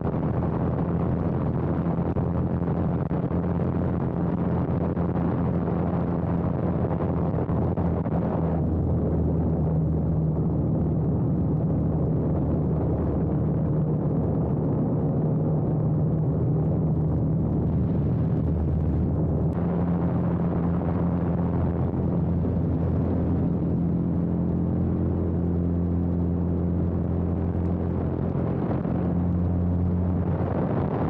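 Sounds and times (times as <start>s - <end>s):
propeller engine droning: 0.0s - 31.0s.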